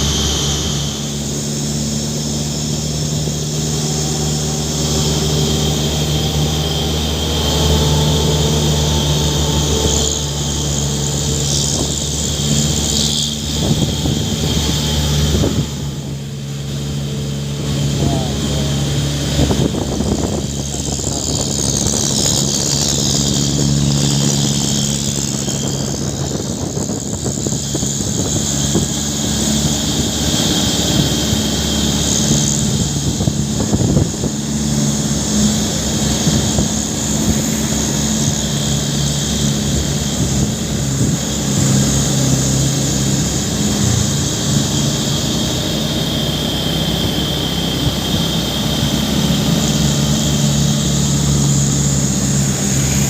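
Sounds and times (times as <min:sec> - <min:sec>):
diesel truck engine running: 0:00.0 - 0:53.0
high whine: 0:00.0 - 0:53.0.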